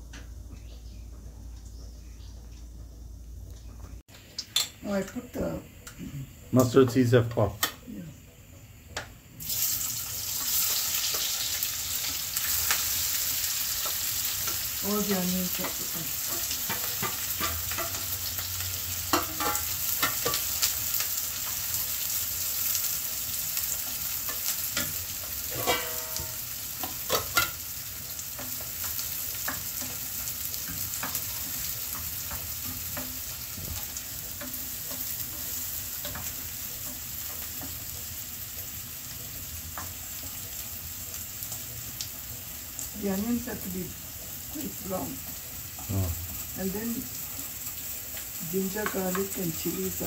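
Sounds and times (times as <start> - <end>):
onion sizzling in hot oil: 4.2 - 50.0.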